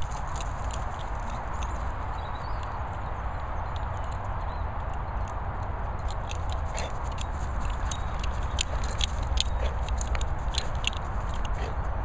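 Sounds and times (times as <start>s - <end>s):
collar tag jingling: 0.0s - 12.0s
wind rumble on microphone: 0.0s - 12.0s.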